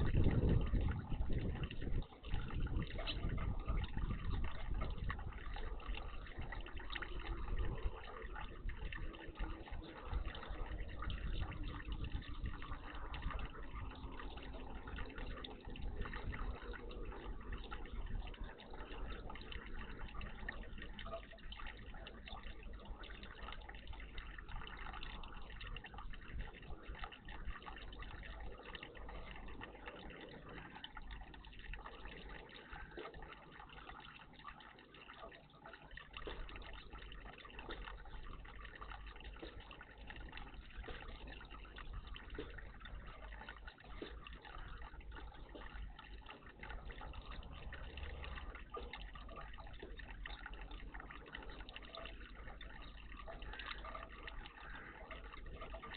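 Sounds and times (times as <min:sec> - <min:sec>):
small splashes: 0:00.0 - 0:55.9
water trickling and dripping: 0:00.0 - 0:55.9.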